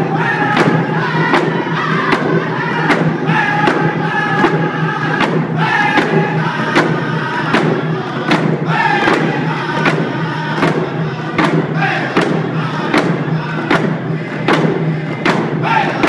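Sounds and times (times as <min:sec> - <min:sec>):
group chanting in high voices: 0:00.0 - 0:16.0
steady drum beat: 0:00.0 - 0:16.0.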